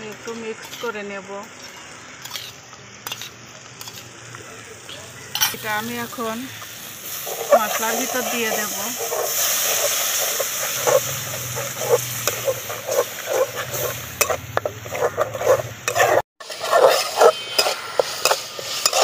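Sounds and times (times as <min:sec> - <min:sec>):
metal spatula scraping pan: 0:00.0 - 0:04.1, 0:07.1 - 0:19.0
paste sizzling in hot oil: 0:00.0 - 0:19.0.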